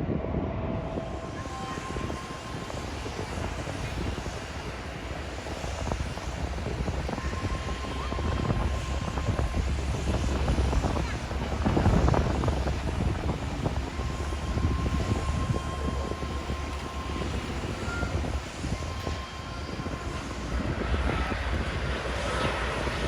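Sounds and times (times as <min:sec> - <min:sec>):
jet engines rumbling: 0:00.0 - 0:23.0
faint steady whine: 0:00.3 - 0:23.0.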